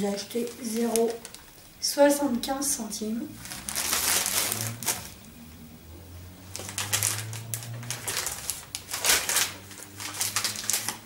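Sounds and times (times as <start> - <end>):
plastic packaging crackling: 0.0 - 5.3, 6.4 - 11.0.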